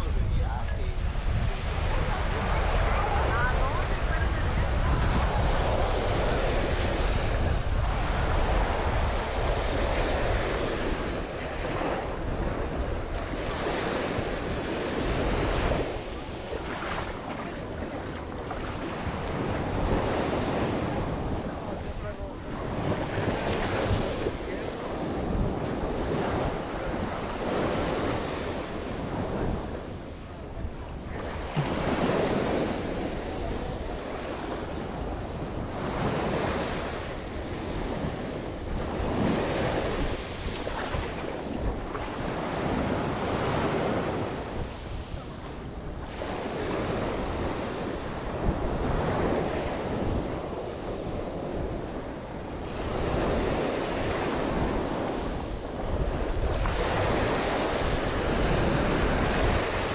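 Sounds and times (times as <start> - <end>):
sea waves breaking on shore: 0.0 - 59.9
wind buffeting microphone: 0.0 - 59.9.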